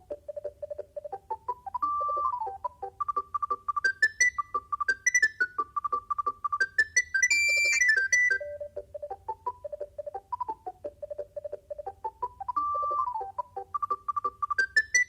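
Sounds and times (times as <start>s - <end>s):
mobile phone ringtone: 1.6s - 15.0s.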